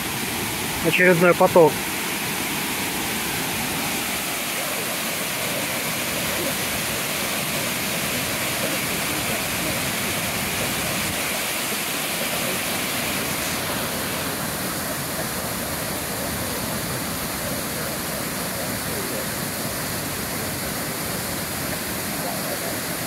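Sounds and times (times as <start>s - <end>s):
waterfall rushing onto rocks: 0.0s - 23.0s.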